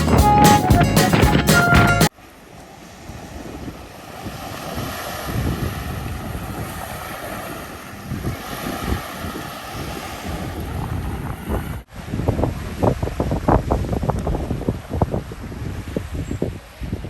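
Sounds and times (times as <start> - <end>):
waves rushing: 0.0 - 14.0
wind buffeting microphone: 3.0 - 17.0.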